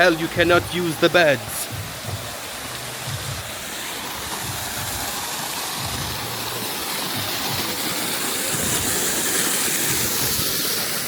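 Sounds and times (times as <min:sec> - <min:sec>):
waterfall crashing into pool: 0:00.0 - 0:11.0.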